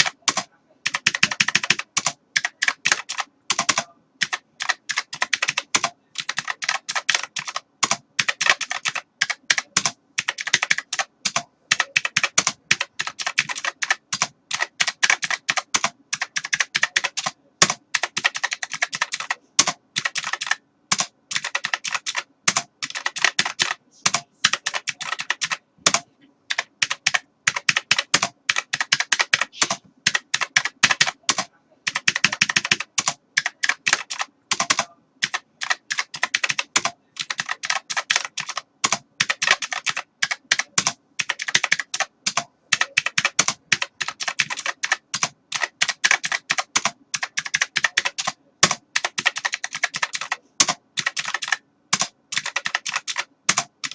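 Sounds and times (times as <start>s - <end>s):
keyboard typing clicks: 0.0s - 53.9s.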